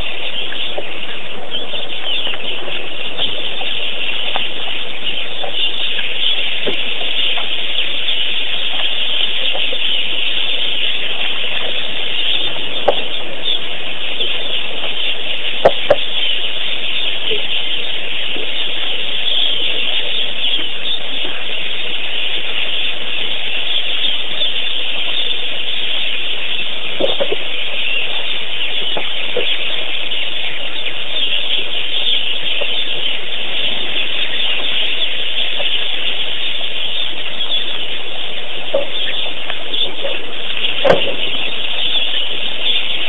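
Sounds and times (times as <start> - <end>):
steady dense hiss: 0.0 - 43.0.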